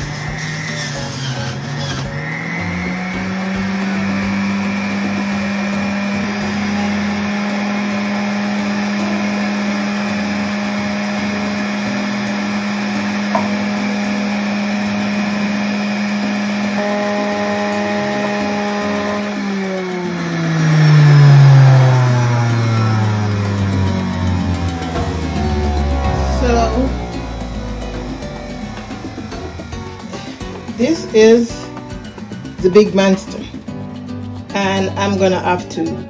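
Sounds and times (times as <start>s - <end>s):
juicer motor running: 0.0s - 34.1s.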